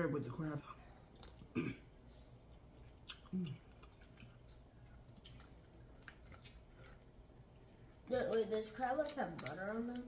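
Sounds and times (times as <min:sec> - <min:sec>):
people chewing: 0:00.2 - 0:10.0.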